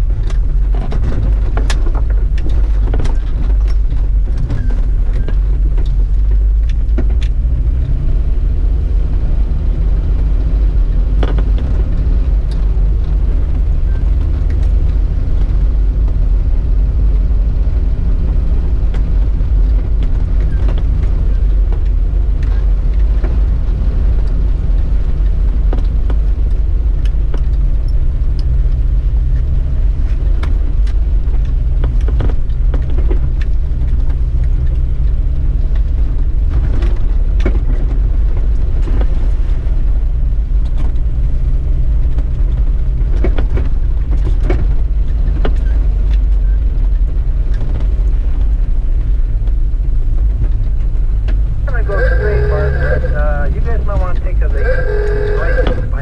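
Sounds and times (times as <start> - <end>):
engine and drivetrain rumble: 0.0 - 56.0.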